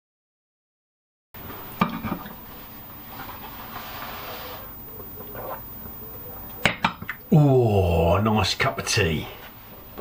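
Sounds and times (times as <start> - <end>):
low background hiss: 1.5 - 10.0.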